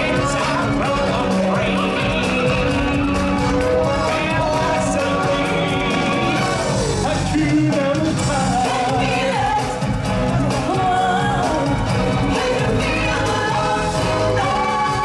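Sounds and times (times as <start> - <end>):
full band playing: 0.0 - 15.0
voices singing: 0.0 - 15.0.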